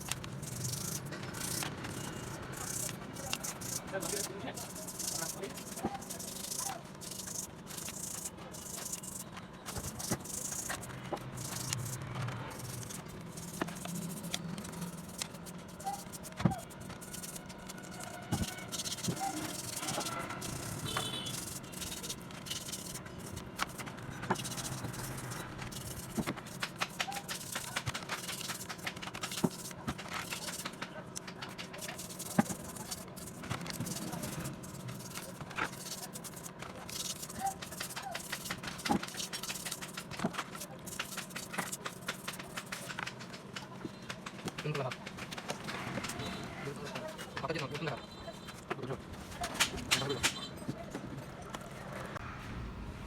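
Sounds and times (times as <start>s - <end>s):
tools and metal parts clicking: 0.0s - 46.3s.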